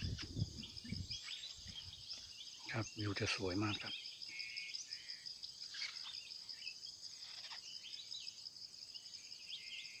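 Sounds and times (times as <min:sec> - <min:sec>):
bird chirps: 0:00.0 - 0:10.0
insects chirring: 0:00.0 - 0:10.0.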